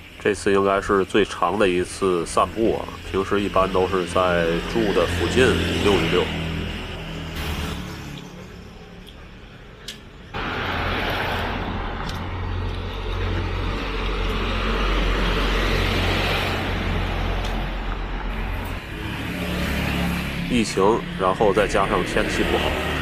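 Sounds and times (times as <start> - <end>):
truck engine rumble: 0.0 - 23.0.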